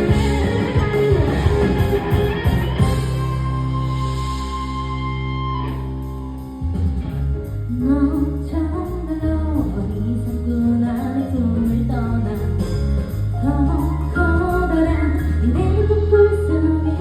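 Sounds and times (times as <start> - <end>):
bass and drum beat: 0.0 - 17.0.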